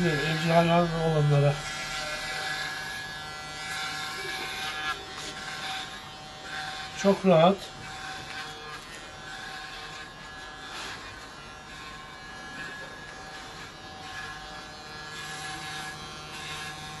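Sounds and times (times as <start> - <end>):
electric hair clipper buzzing: 0.0 - 17.0.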